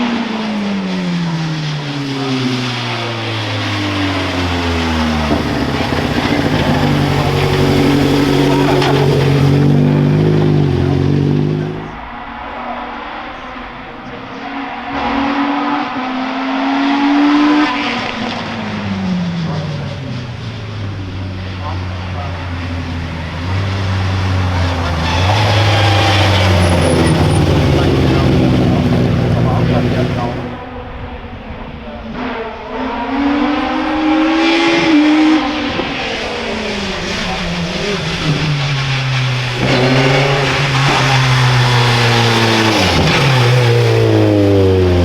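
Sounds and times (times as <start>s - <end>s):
race car accelerating past: 0.0s - 45.0s.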